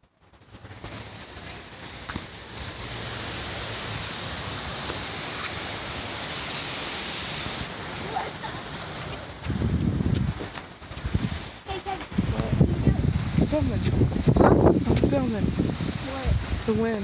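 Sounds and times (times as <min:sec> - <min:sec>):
strong wind blowing: 0:00.8 - 0:17.0.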